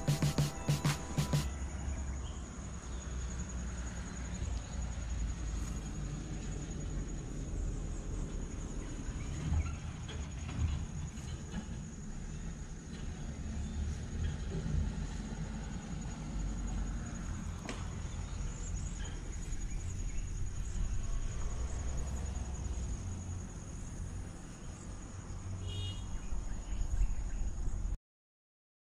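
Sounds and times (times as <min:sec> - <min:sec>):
insects chirring: 0:01.4 - 0:27.9.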